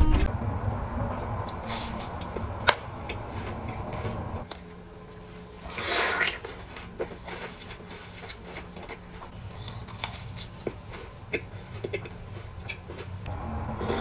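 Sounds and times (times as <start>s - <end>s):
faint low hum: 0.0s - 14.0s
chewing cookie: 1.4s - 14.0s.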